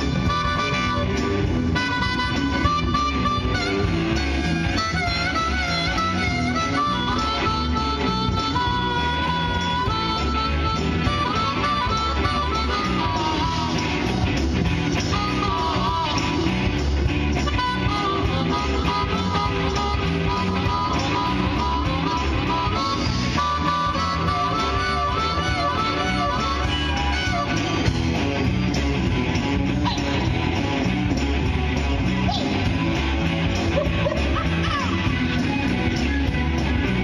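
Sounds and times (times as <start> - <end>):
blues-rock band playing: 0.0 - 37.0.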